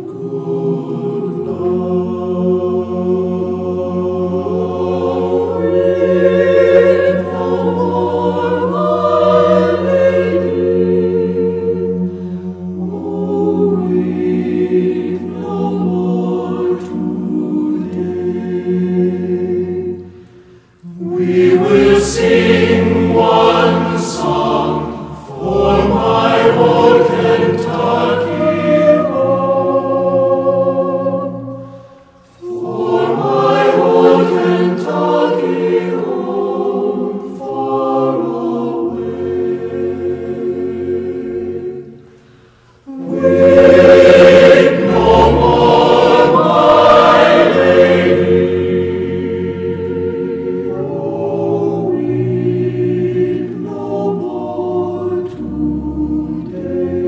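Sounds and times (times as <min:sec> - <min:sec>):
choir singing slow phrases: 0:00.0 - 0:57.0.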